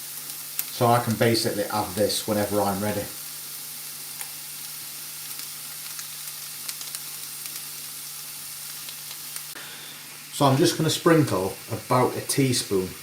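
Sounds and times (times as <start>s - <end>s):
meat and onions sizzling in oil: 0.0s - 13.0s.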